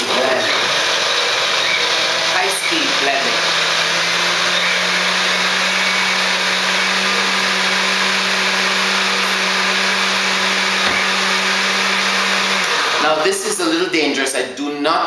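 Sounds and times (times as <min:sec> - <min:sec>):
blender whirring: 0:00.0 - 0:13.7.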